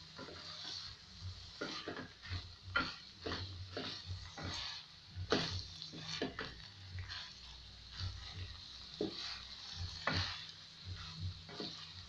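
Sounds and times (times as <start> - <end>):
wooden spoon scraping a pot: 0.0 - 12.0.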